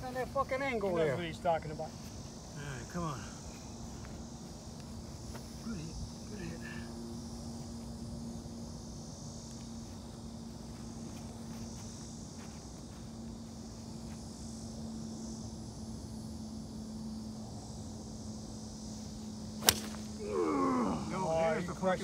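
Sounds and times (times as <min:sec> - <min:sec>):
high insect buzz: 0:00.0 - 0:22.0
steady low hum: 0:00.0 - 0:22.0.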